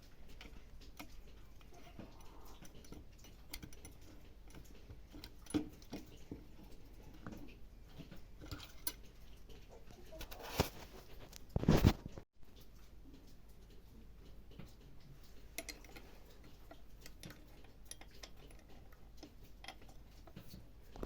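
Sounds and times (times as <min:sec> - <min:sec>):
tools and parts clicking and tapping: 0:00.0 - 0:11.5, 0:12.5 - 0:21.0.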